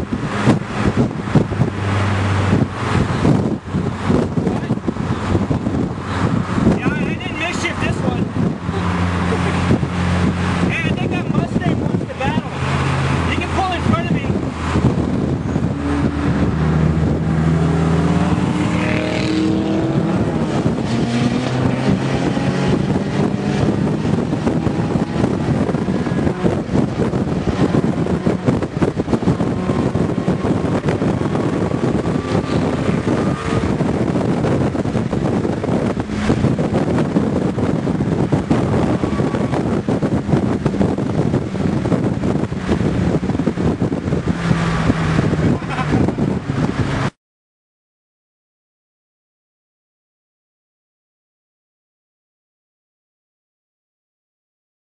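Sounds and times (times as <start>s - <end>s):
car engine accelerating hard: 0.0s - 47.2s
road and wind noise: 0.0s - 47.2s.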